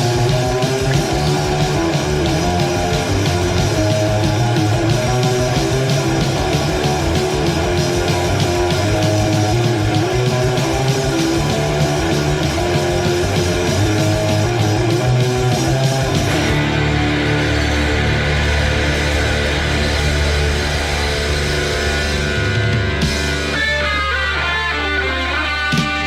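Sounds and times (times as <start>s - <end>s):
distorted electric guitar: 0.0s - 26.0s
rapid driving drums: 0.0s - 26.0s.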